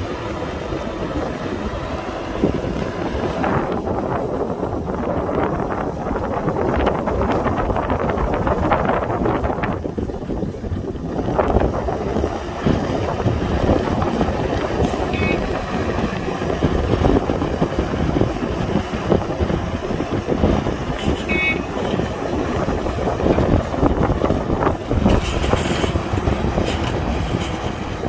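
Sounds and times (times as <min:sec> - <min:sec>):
excavator diesel engine running: 0:00.0 - 0:28.0
wind rumbling on microphone: 0:00.0 - 0:28.0.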